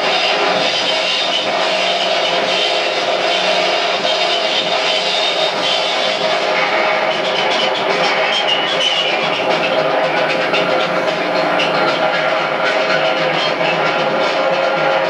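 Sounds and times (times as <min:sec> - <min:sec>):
distorted noise rock band: 0:00.0 - 0:15.0.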